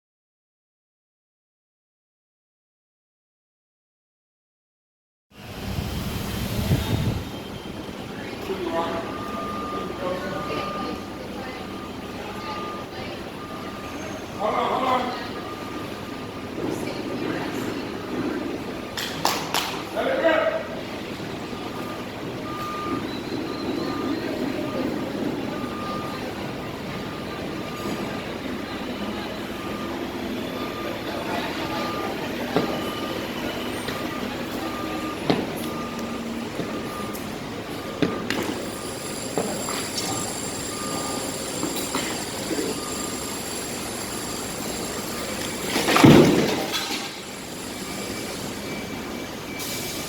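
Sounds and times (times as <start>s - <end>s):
construction site rumble: 5.4s - 50.0s
truck reversing beep: 5.4s - 50.0s.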